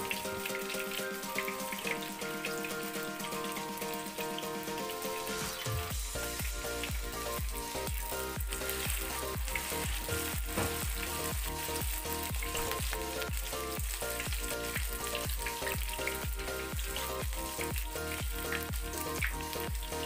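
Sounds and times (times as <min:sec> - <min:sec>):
background music with steady beat: 0:00.0 - 0:20.0
batter sizzling in hot oil: 0:00.0 - 0:20.0.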